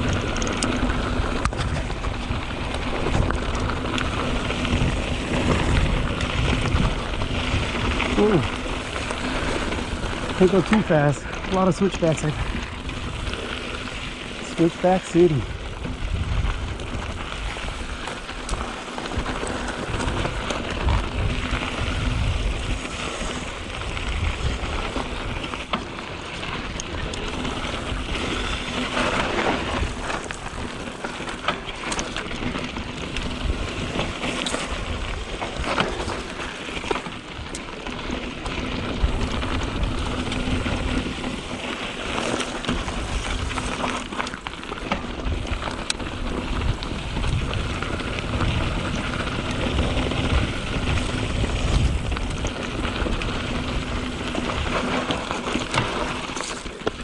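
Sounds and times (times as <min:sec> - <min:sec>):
bike clicks and rattles: 0:00.0 - 0:57.0
tyres on gravel and dirt: 0:00.0 - 0:57.0
wind rumble on microphone: 0:00.0 - 0:57.0.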